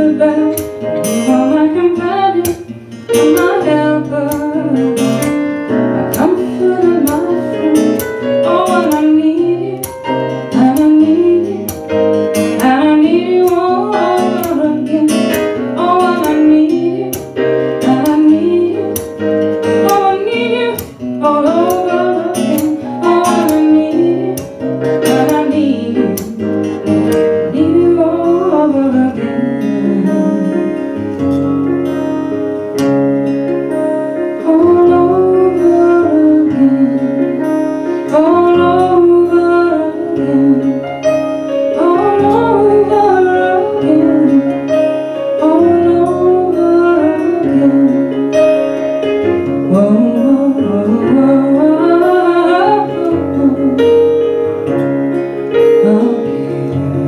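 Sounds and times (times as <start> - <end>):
woman singing: 0.0 - 31.0, 34.3 - 54.5, 55.5 - 57.0
keyboard accompaniment: 0.0 - 57.0
strummed acoustic guitar: 0.0 - 57.0.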